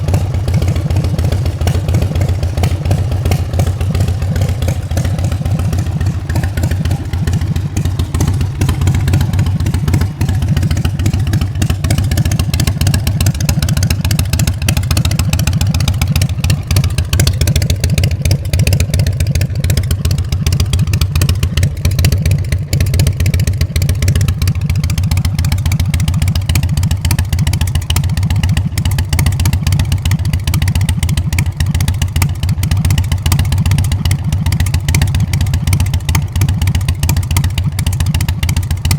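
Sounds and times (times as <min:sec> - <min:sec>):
motorcycle engine pulsing: 0:00.0 - 0:38.9.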